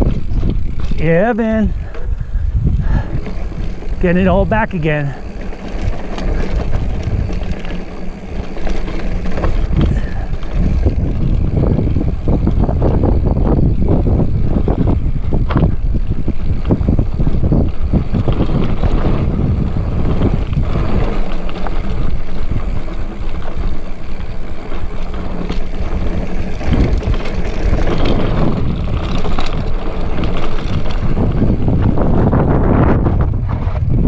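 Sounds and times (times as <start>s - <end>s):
bike knocking and rattling: 0.0s - 34.0s
bike tyres rumbling on dirt: 0.0s - 34.0s
wind buffeting microphone: 0.0s - 34.0s.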